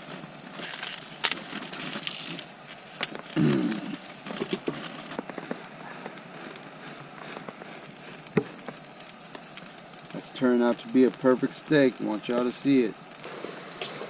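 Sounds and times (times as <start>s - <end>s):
crackles and pops: 0.0s - 14.0s
steaks sizzling on a grill: 0.0s - 14.0s.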